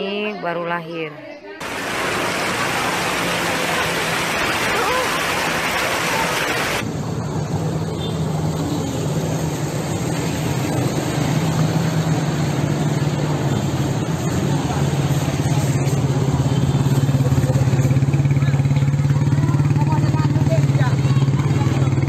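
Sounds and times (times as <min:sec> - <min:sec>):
floodwater rushing down street: 0:01.6 - 0:22.0.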